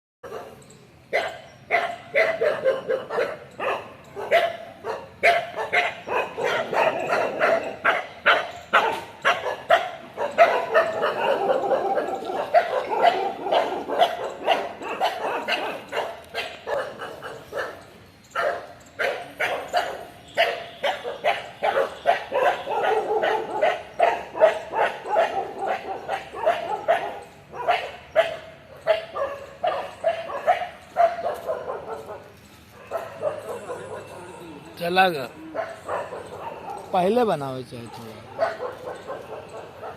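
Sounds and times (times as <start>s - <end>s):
dogs barking: 0.2s - 39.9s.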